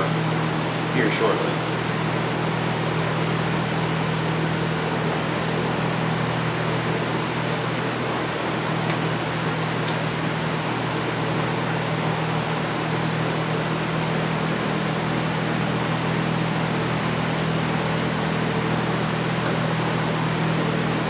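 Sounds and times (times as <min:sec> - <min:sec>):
fan whirring: 0:00.0 - 0:21.0.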